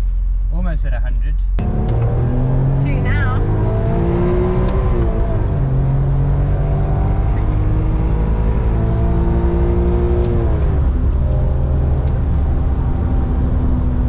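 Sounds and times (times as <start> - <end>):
car engine revving: 1.6 - 14.0.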